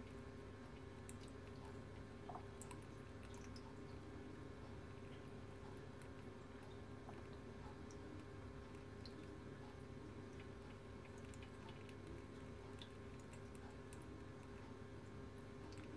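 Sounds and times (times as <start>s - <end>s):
faint pump hum: 0.0s - 15.9s
water ticks and drips: 0.0s - 15.9s.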